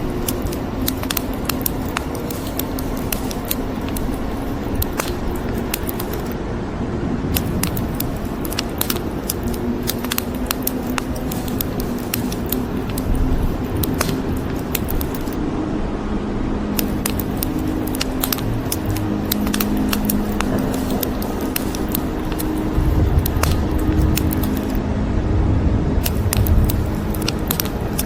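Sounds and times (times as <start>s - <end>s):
rain hissing: 0.0s - 6.4s, 7.2s - 15.4s, 16.7s - 24.8s, 26.0s - 28.0s
wood fire crackling: 0.0s - 6.4s, 7.3s - 15.4s, 16.8s - 24.8s, 26.0s - 28.0s.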